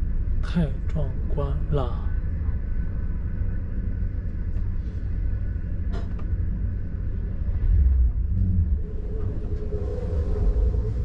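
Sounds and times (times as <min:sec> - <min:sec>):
train rumble from inside carriage: 0:00.0 - 0:11.0.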